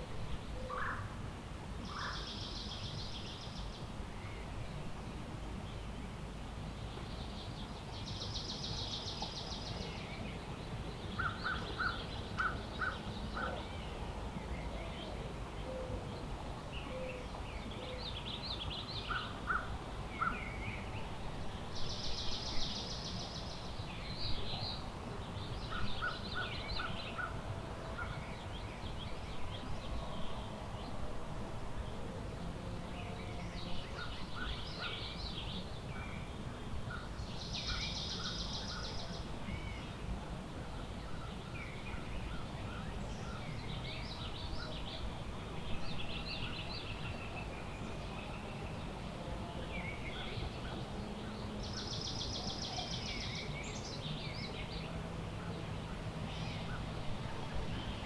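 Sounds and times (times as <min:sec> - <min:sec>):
woodland birds singing: 0:06.8 - 0:31.0, 0:32.9 - 0:58.0.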